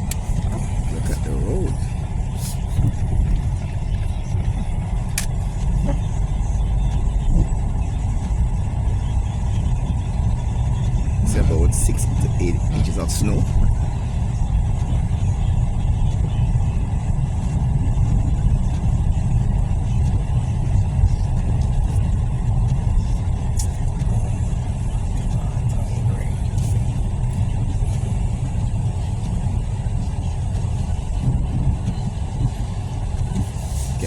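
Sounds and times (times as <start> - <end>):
vehicle interior road rumble: 0.0 - 34.0.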